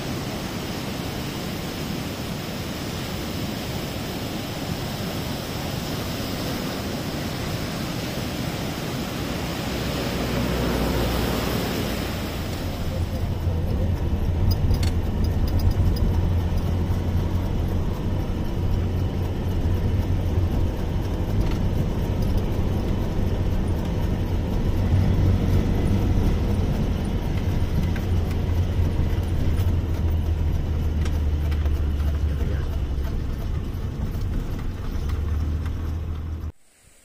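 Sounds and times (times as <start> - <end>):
vehicle engine drone: 0.0 - 36.6
road noise: 0.0 - 37.0.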